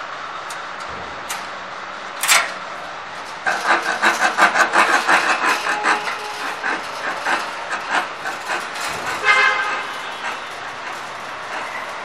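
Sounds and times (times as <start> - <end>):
metallic machine clattering: 0.5 - 12.0.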